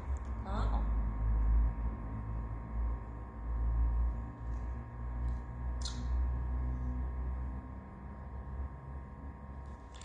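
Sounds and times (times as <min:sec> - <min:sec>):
low rumbling drone: 0:00.0 - 0:10.0.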